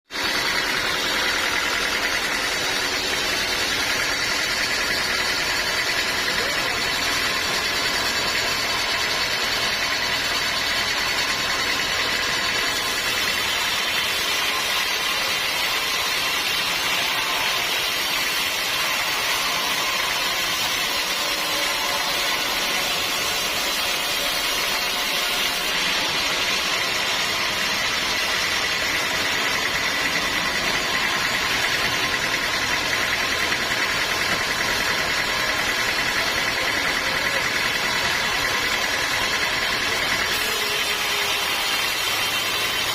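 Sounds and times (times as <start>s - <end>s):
sawmill machinery drone: 0.1s - 42.9s.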